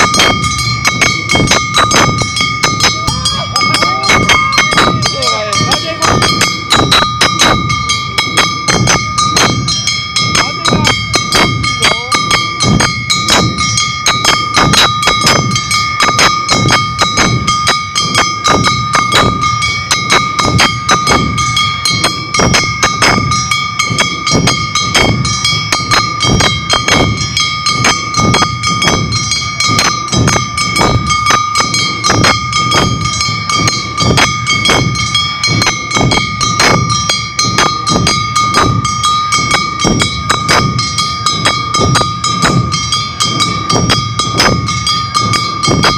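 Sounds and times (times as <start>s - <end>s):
drums and hand gongs: 0.0s - 45.9s
high held tone: 0.0s - 45.9s.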